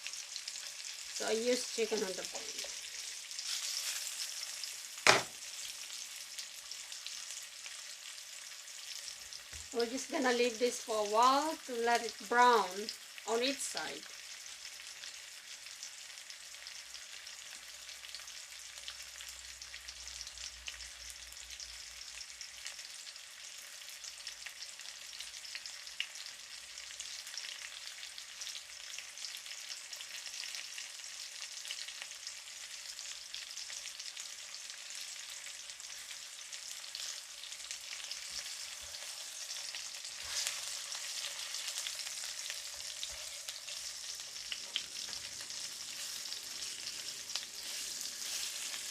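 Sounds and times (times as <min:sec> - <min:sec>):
chicken sizzling in oil: 0:00.0 - 0:48.9.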